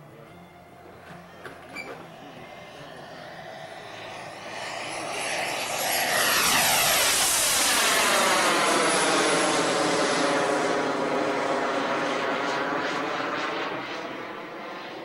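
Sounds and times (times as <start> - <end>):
military jet flying past: 0.3 - 15.0.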